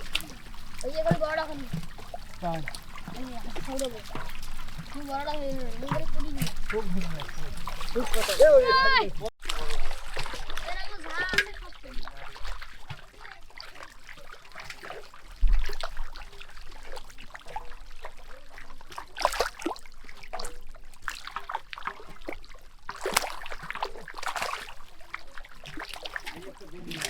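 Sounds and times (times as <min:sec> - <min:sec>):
water and mud splashing: 0:00.0 - 0:27.0.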